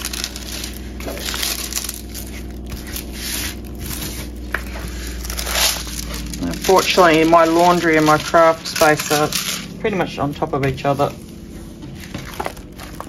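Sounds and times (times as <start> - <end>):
canvas crinkling and rustling: 0.0 - 13.0
washing machine spin hum: 0.0 - 13.0.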